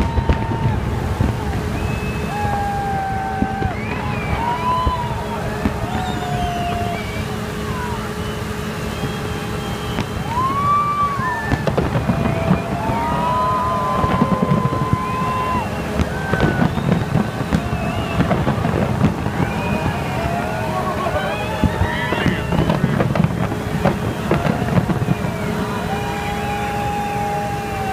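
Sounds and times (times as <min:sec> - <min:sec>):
crowd rumble: 0:00.0 - 0:27.9
fireworks bangs and crackles: 0:00.0 - 0:27.9
long gliding tones: 0:00.0 - 0:27.9.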